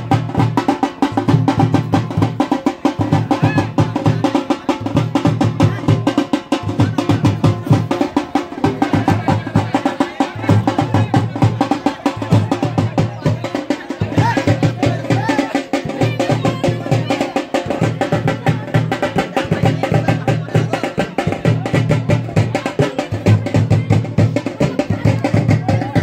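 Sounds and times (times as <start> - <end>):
fast rolling drumming: 0.0 - 26.0.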